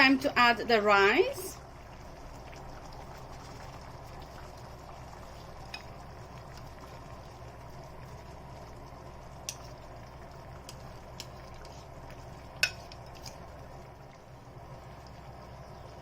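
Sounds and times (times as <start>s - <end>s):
cooking pot hissing: 0.0s - 16.0s.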